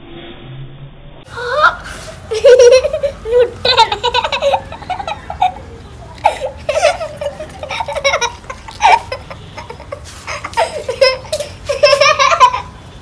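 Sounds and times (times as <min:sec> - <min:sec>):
girls giggling: 0:01.3 - 0:12.8.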